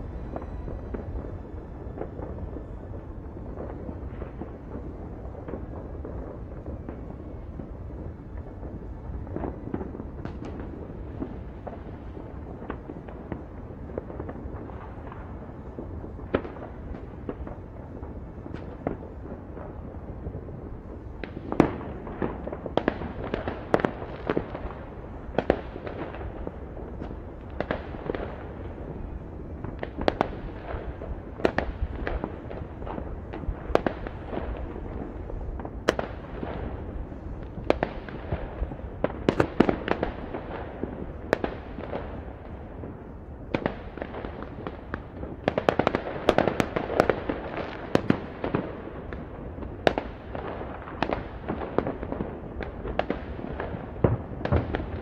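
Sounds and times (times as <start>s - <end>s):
firecracker bangs and cracks: 0.0s - 55.0s
fireworks rumble: 0.0s - 55.0s.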